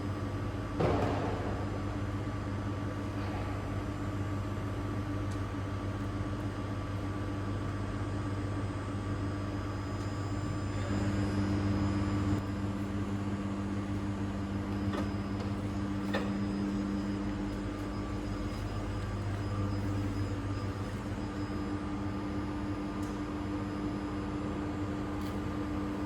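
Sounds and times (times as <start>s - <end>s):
machine hum with electrical drone: 0.0s - 26.0s.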